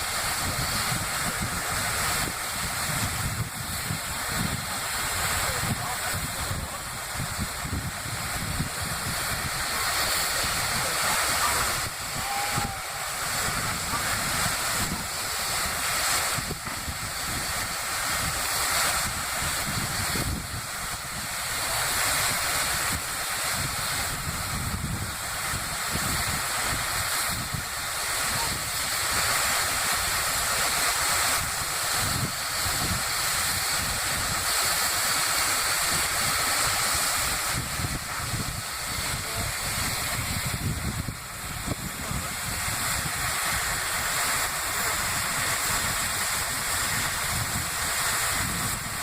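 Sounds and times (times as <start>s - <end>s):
steam locomotive hissing: 0.0s - 49.0s.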